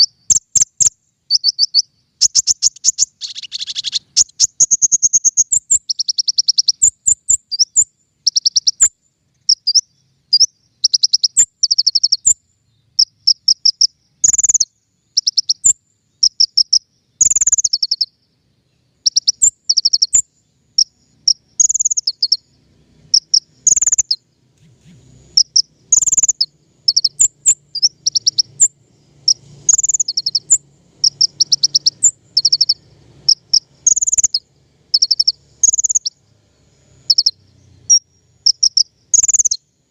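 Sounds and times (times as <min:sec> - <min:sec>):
songbird trills and chirps: 0:00.0 - 0:39.9.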